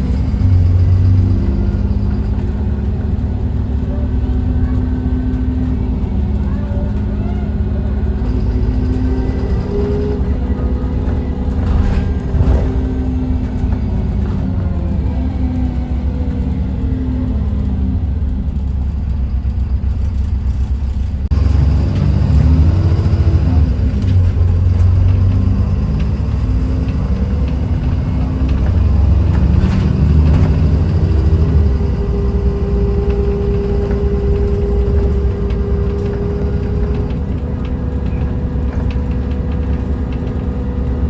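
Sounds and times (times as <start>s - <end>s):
bus engine accelerating: 0.0s - 41.0s.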